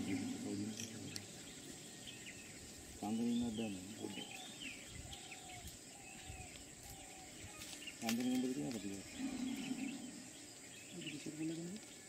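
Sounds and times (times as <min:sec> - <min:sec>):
high insect buzz: 0:00.0 - 0:12.0
small birds chirping: 0:00.0 - 0:12.0.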